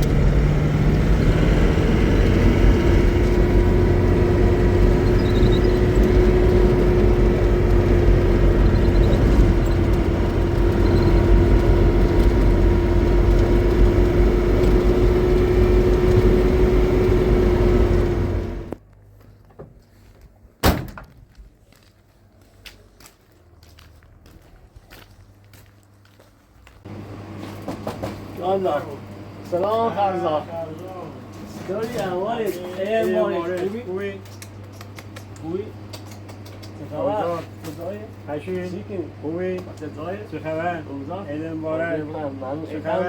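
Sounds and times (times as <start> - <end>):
vehicle engine humming: 0.0 - 19.4, 22.4 - 43.0.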